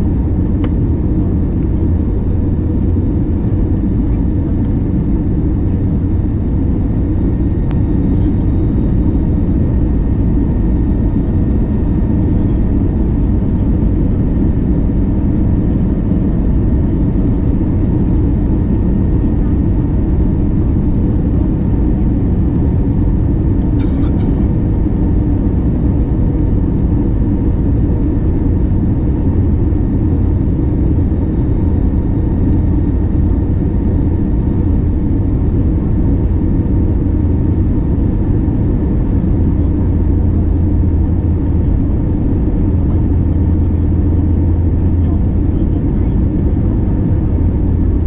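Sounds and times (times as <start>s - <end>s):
aircraft engine and airflow drone: 0.0s - 48.0s.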